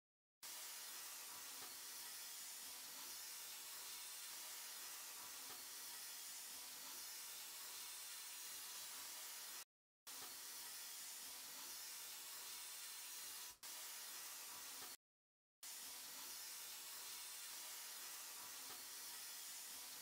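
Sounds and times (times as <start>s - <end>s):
sandblasting gun hissing: 0.4s - 15.0s, 15.6s - 20.0s.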